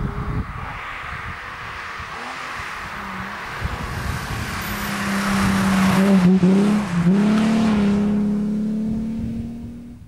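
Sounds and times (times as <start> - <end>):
car passing at speed: 0.0 - 10.0.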